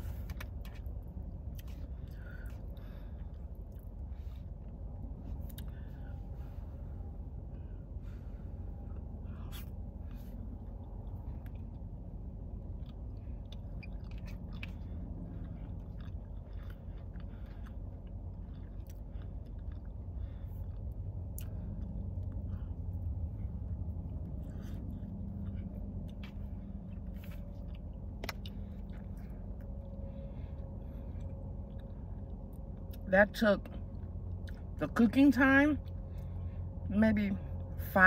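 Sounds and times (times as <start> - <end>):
person chewing food: 0.0 - 33.0, 33.6 - 34.8
steady low hum: 0.0 - 38.0.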